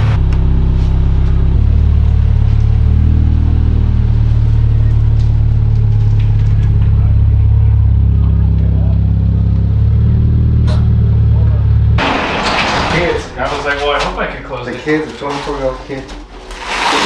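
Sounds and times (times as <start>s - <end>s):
vehicle engine running: 0.0s - 16.7s.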